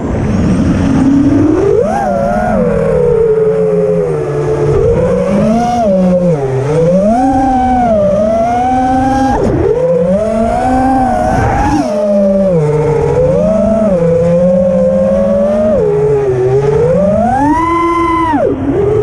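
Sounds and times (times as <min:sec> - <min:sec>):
quadcopter motors whining: 0:00.0 - 0:19.0.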